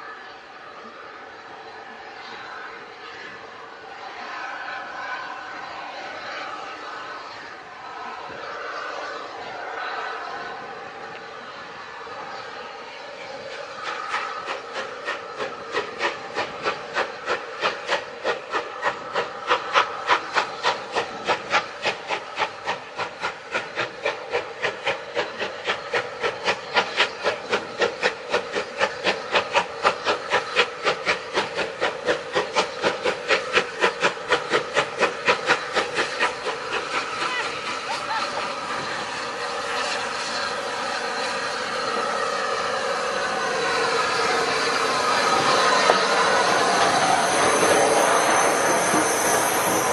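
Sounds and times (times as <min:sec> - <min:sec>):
steam locomotive exhaust beats: 0:00.0 - 0:49.9
steam locomotive rumble: 0:00.0 - 0:49.9.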